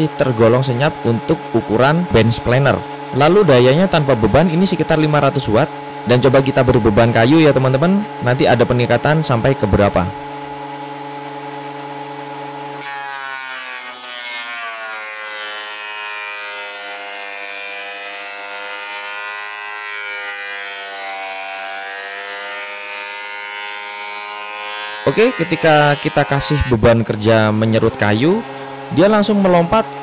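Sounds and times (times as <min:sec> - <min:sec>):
planer blades cutting board: 0:00.0 - 0:30.0
planer motor hum: 0:00.0 - 0:30.0.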